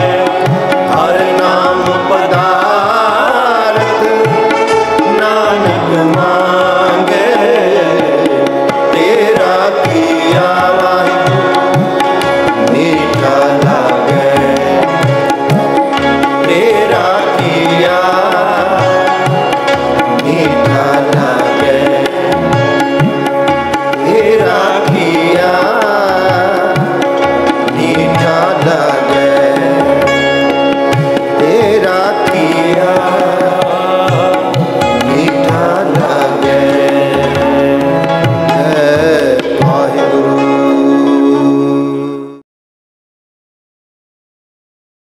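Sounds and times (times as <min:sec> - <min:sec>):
harmonium held notes: 0:00.0 - 0:42.4
tabla strokes: 0:00.0 - 0:42.4
voices singing: 0:00.0 - 0:42.4.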